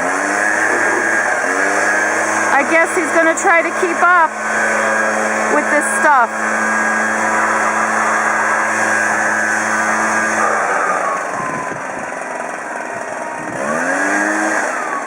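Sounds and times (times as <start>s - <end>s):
two-stroke leaf blower: 0.0s - 15.0s.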